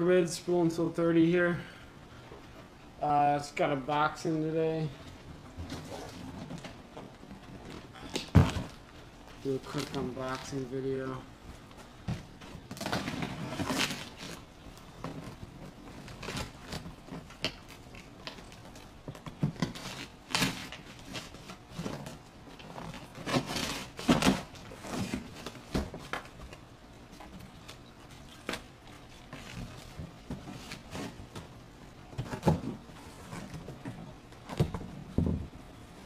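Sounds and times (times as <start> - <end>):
cardboard and paper rustling: 4.8 - 36.0.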